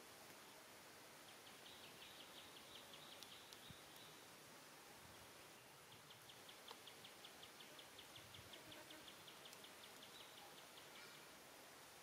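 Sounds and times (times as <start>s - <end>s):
quiet outdoor background noise: 0.0s - 12.0s.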